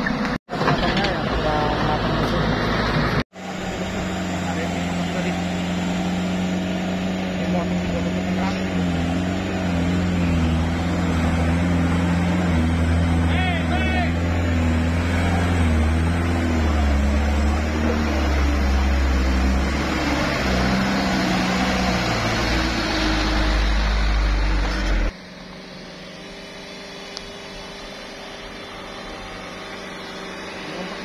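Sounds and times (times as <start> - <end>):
dump truck diesel engine: 0.0 - 31.0.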